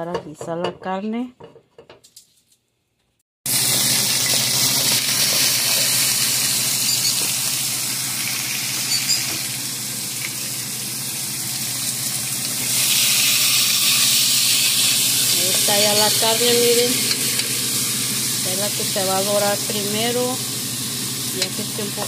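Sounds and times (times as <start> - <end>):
meat sizzling in a hot pot: 3.5 - 22.0.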